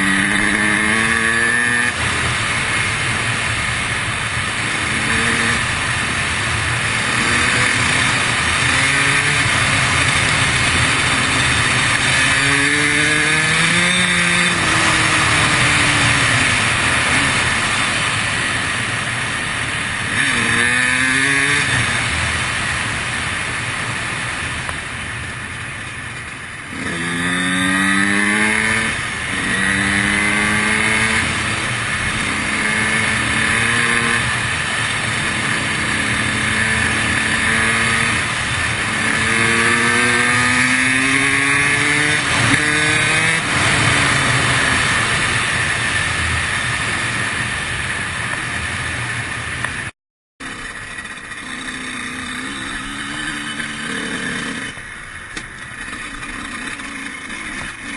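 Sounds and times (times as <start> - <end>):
constant rushing noise: 0.0 - 57.9
motorcycle engine revving: 0.0 - 57.9.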